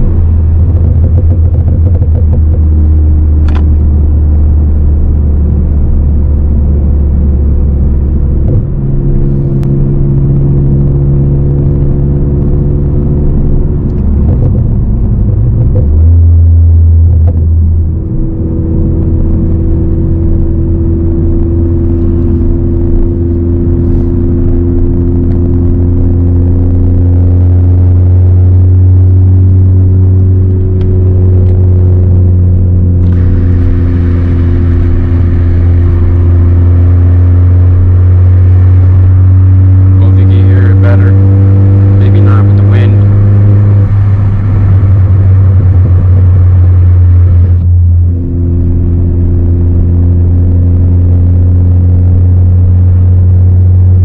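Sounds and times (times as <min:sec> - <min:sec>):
car engine droning while driving: 0:00.0 - 0:54.0.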